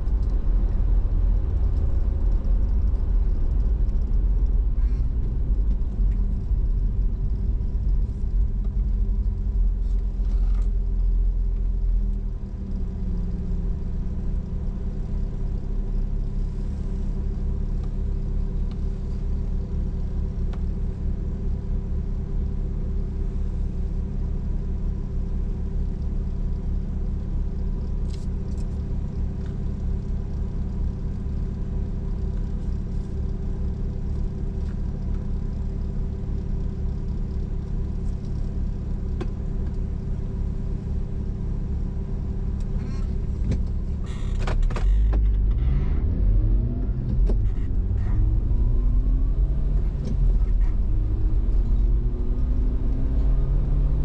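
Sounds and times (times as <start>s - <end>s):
car engine idling: 0.0s - 45.4s.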